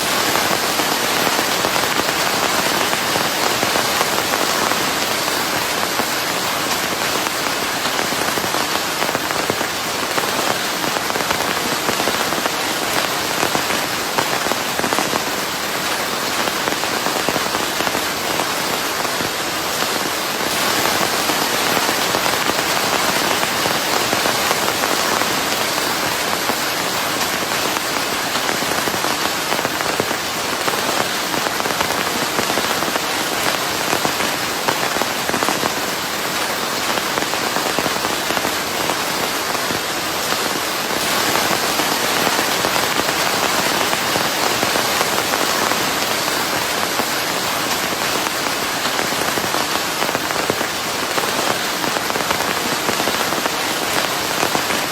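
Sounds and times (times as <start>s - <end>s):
rain pattering on surface: 0.0s - 54.9s.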